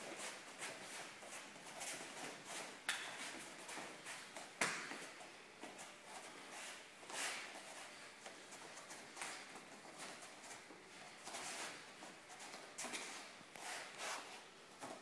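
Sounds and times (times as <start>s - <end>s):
feet shuffling on mat: 0.0s - 15.0s.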